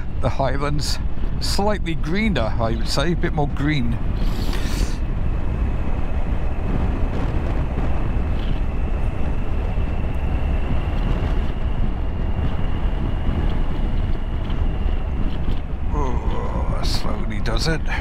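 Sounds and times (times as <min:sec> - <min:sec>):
motorcycle engine and road rumble: 0:00.0 - 0:18.0
wind rush on microphone: 0:00.0 - 0:18.0.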